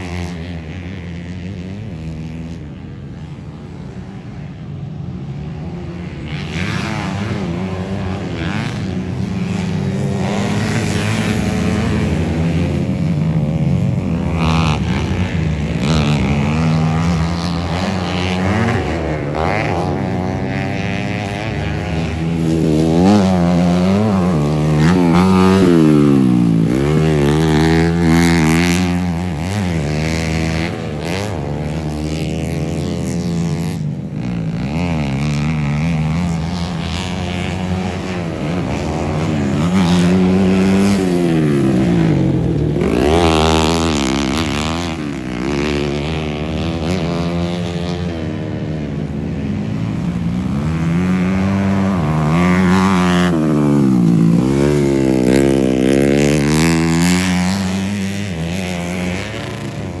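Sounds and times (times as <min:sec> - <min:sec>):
dirt bike engines racing: 0:00.0 - 1:00.0.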